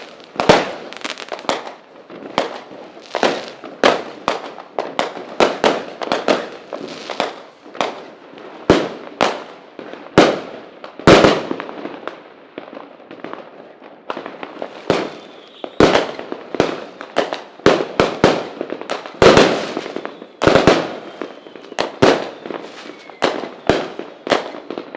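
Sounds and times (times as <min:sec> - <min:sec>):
fireworks banging: 0:00.0 - 0:12.2, 0:13.0 - 0:24.9.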